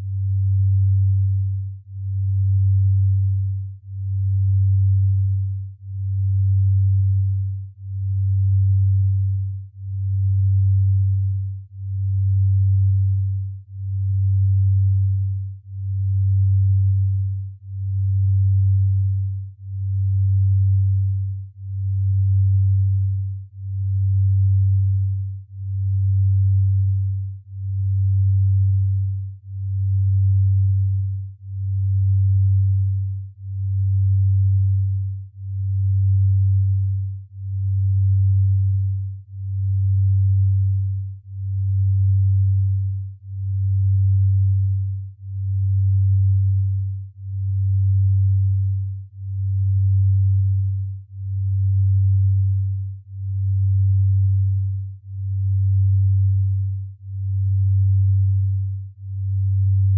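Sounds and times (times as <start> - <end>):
low pulsing sine tone: 0.0 - 59.9.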